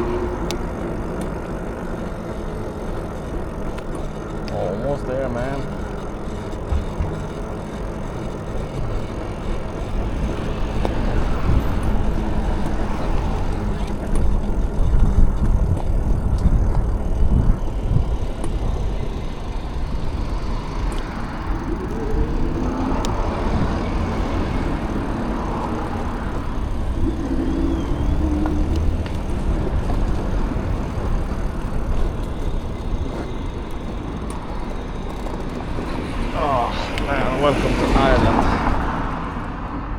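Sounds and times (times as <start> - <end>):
vehicle passing: 0.0 - 15.2, 18.0 - 39.9
road traffic rumble: 0.0 - 39.9.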